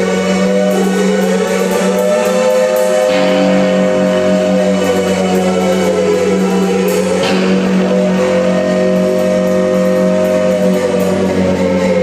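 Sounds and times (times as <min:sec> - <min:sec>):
bending sustained tones: 0:00.0 - 0:12.0
drums: 0:00.0 - 0:12.0
steady low drone: 0:00.0 - 0:12.0.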